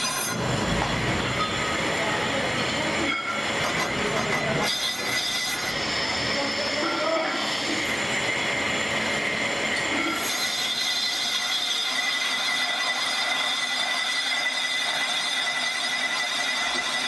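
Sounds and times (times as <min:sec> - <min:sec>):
lathe cutting metal with whine: 0:00.0 - 0:17.0.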